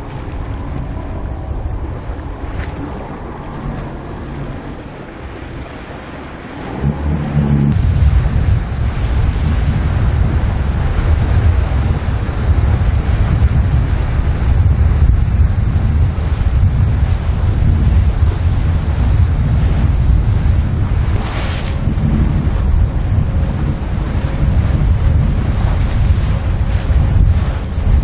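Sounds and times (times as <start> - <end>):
water rushing and splashing: 0.0 - 28.0
wind buffeting microphone: 0.0 - 28.0.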